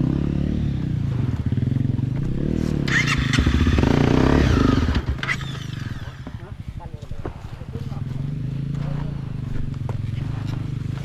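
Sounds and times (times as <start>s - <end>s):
motorcycle engine revving: 0.0s - 11.0s
motorcycle clatter: 1.3s - 11.0s.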